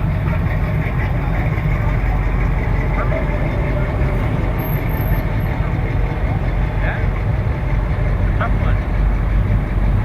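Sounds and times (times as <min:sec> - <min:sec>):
faint voices: 0:00.0 - 0:09.3
car engine running: 0:00.0 - 0:10.0.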